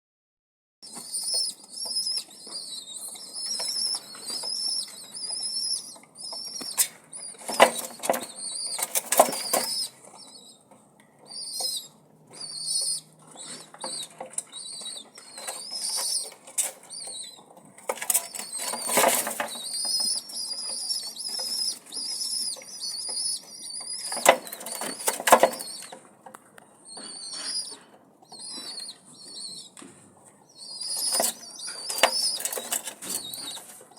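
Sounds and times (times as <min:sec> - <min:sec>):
nestling birds cheeping: 0:00.8 - 0:26.1, 0:26.7 - 0:29.8, 0:30.4 - 0:33.9.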